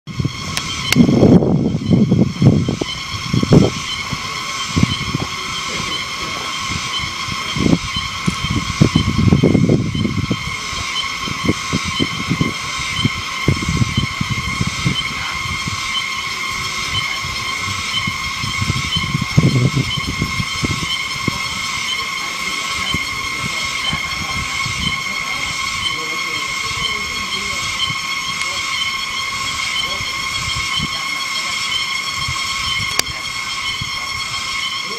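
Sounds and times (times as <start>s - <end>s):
cicadas droning: 0.0s - 34.9s
wind gusts on microphone: 0.1s - 34.9s.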